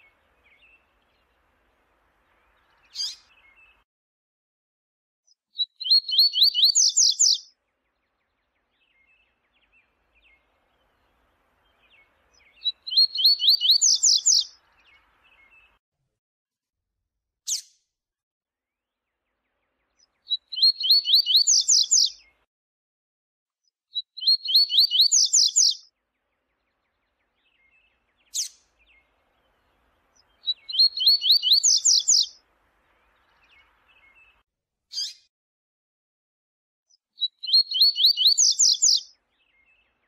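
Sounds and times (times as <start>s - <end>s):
bird song of rapid notes: 0.0s - 3.8s, 5.3s - 15.8s, 17.5s - 17.8s, 18.8s - 22.5s, 23.6s - 35.3s, 36.9s - 40.0s.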